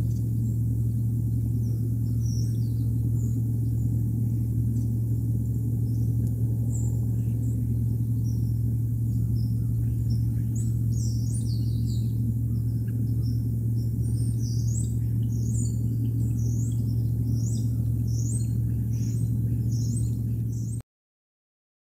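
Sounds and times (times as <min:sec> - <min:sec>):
low hum: 0:00.0 - 0:20.8
small birds chirping: 0:00.0 - 0:20.8.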